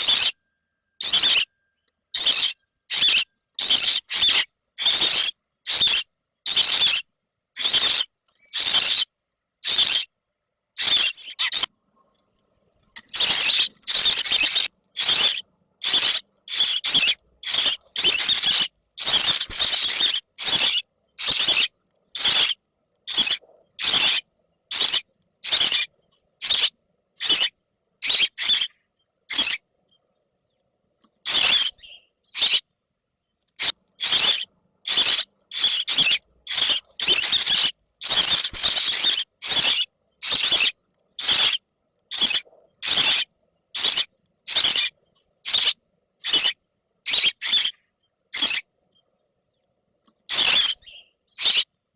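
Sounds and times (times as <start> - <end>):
baby birds begging squeals: 0.0 - 0.4, 1.0 - 1.5, 2.1 - 10.2, 10.8 - 11.7, 12.8 - 29.6, 31.2 - 32.7, 33.5 - 48.7, 50.3 - 51.7.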